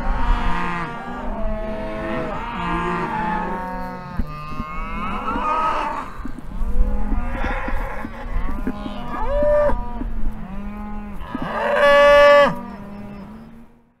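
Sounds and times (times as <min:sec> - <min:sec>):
cattle mooing: 0:00.0 - 0:13.8.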